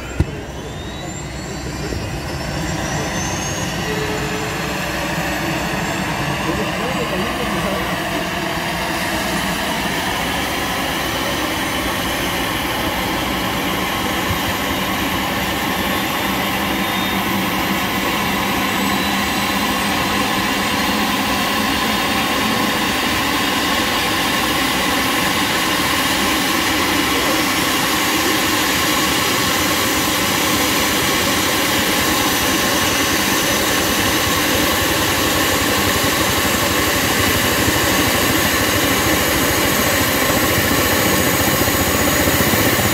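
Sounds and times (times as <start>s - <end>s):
helicopter turbine whine and rotor: 0.0s - 42.9s.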